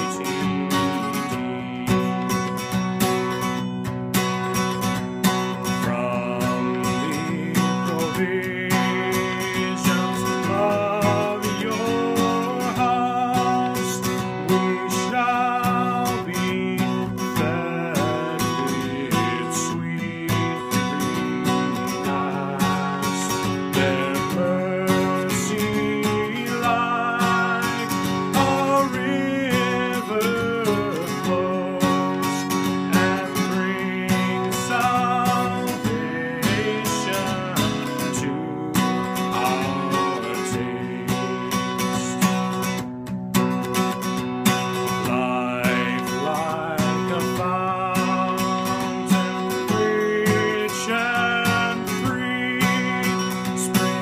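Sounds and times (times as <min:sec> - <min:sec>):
man singing a hymn: 0:00.0 - 0:02.6, 0:05.6 - 0:42.5, 0:44.6 - 0:54.0
strummed acoustic guitar: 0:00.0 - 0:54.0.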